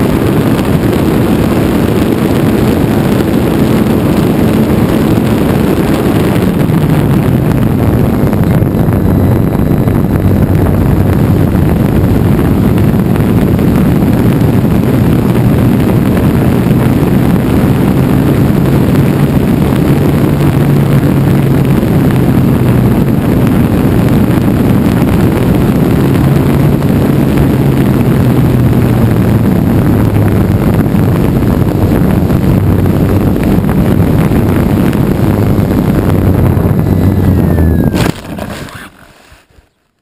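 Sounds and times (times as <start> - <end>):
light aircraft engine running: 0.0 - 39.7
wind noise on microphone: 0.0 - 40.0.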